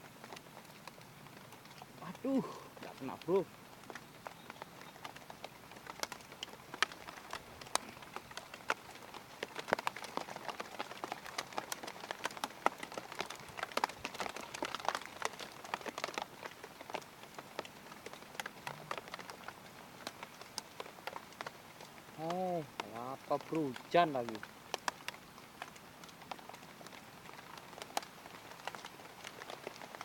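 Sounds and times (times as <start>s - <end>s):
rain drops tapping: 0.0s - 30.0s
soft rain hiss: 0.0s - 30.0s.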